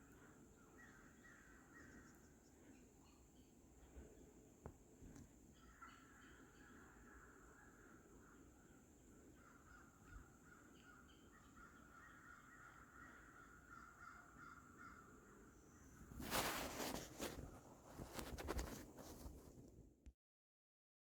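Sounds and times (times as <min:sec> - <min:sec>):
distant birds calling: 0:00.0 - 0:19.4.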